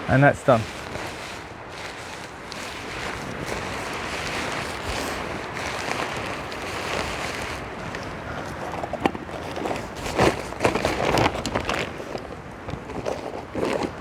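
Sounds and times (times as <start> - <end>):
tent fabric flapping: 0.1 - 14.0.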